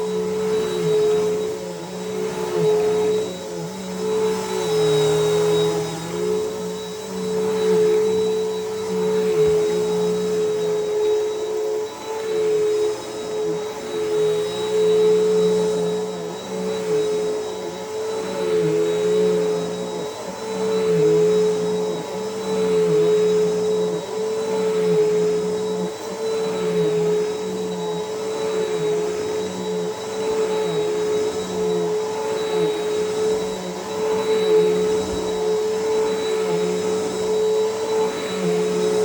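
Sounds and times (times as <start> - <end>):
vacuum cleaner on carpet: 0.0 - 39.0.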